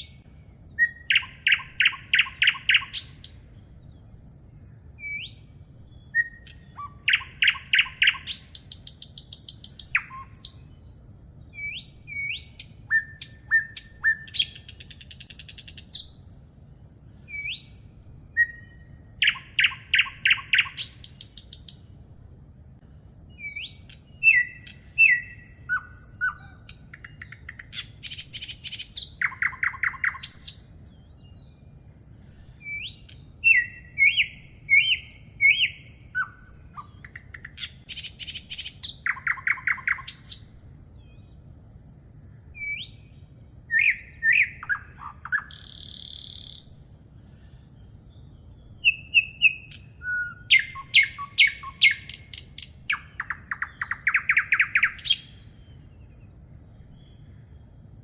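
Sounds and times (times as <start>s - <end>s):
faint low rumble: 0.0s - 54.1s
songbirds chirping and trilling: 0.0s - 58.0s.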